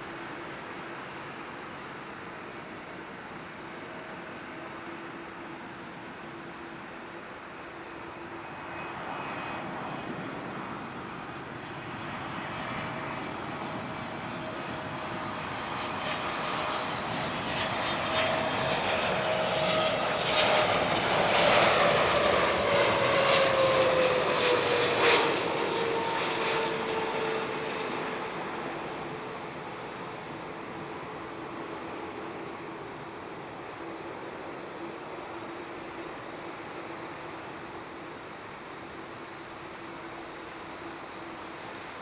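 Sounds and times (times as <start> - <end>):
jetliner passing overhead: 0.0 - 42.0
whining jet engine tone: 0.0 - 42.0.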